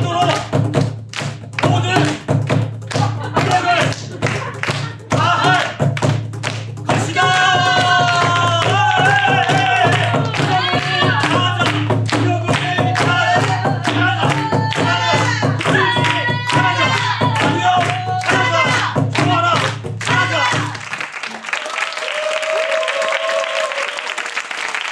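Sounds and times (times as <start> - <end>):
barrel drum beat: 0.0 - 20.9
audience clapping in rhythm: 0.0 - 24.9.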